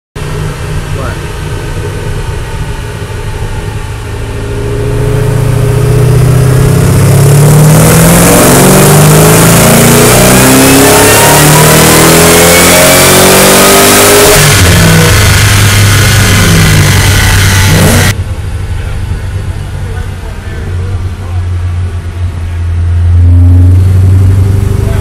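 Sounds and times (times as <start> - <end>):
car engine revving at full throttle: 0.2 - 25.0.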